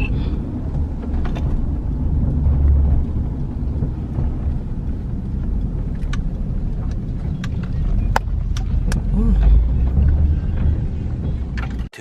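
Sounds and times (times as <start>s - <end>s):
road rumble inside moving car: 0.0s - 12.0s.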